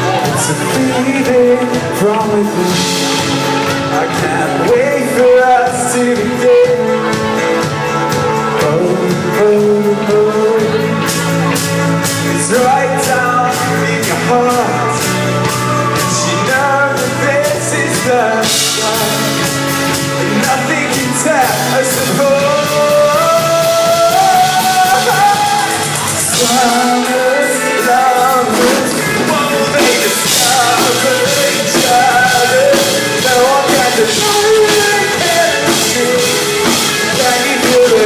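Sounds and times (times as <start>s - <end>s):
live pop-rock band playing: 0.0s - 38.0s
person singing held sliding melody: 0.0s - 38.0s.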